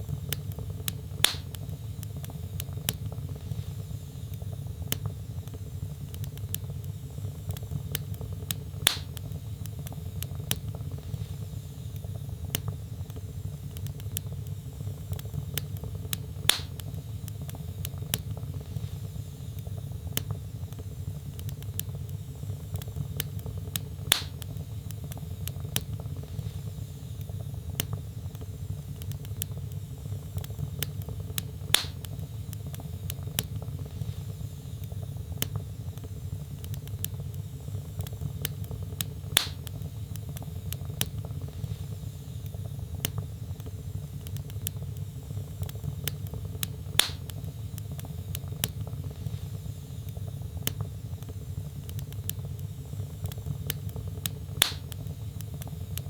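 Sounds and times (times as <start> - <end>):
fire crackles and snaps: 0.0 - 56.0
loud fire pops: 0.0 - 56.0.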